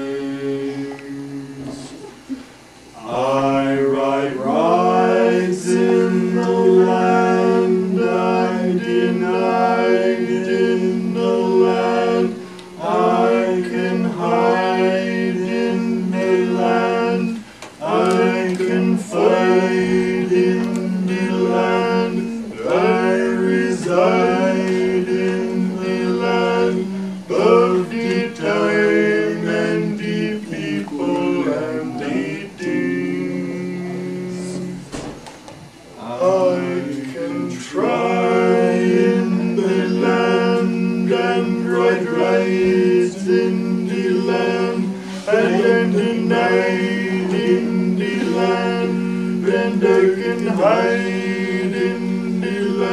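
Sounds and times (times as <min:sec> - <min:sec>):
person singing long sliding phrases: 0:03.0 - 0:34.9, 0:36.0 - 0:52.9.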